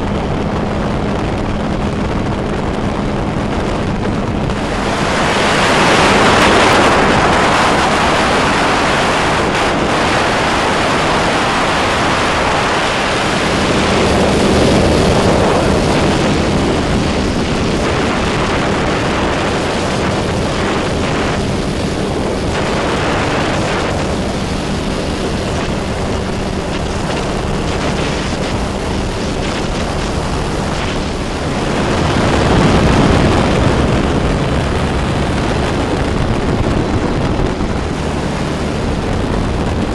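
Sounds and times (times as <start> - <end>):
aircraft engine running: 0.0 - 39.9
wind on microphone: 0.0 - 39.9.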